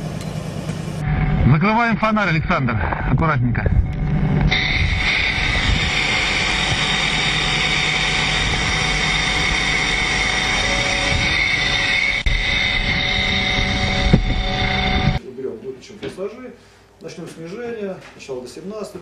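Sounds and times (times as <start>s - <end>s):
jet turbine whine: 0.0s - 15.2s.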